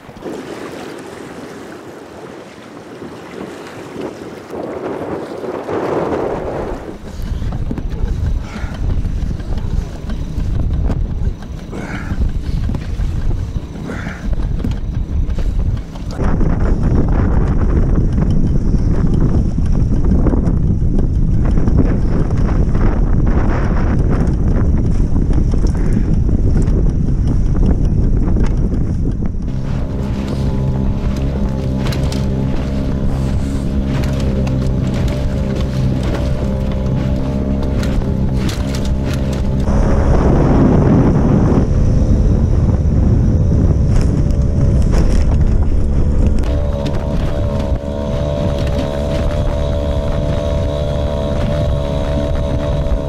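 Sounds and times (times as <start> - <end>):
outboard motor running: 0.0 - 53.0
wind buffeting microphone: 0.0 - 53.0.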